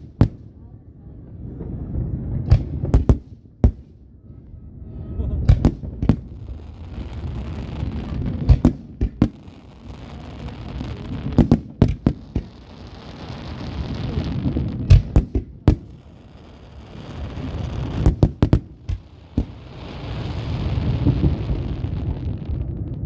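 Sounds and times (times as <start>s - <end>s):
fireworks bangs: 0.0s - 0.7s, 1.5s - 4.2s, 5.1s - 23.0s.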